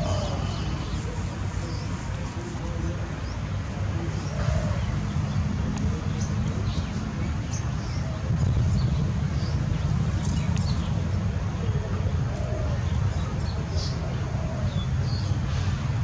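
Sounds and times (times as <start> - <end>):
faint distant voices: 0.0 - 16.0.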